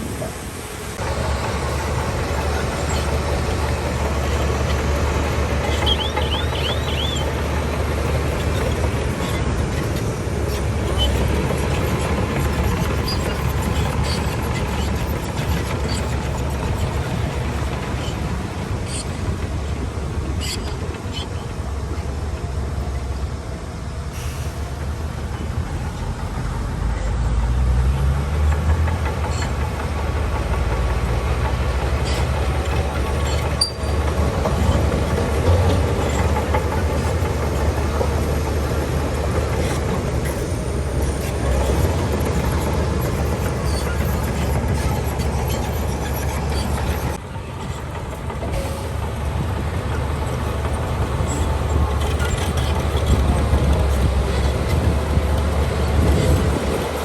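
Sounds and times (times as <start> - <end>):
diesel engine rumble: 0.0 - 57.0.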